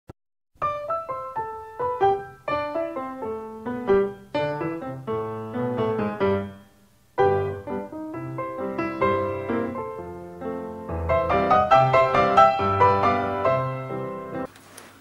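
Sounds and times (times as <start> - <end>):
piano melody: 0.6 - 14.5.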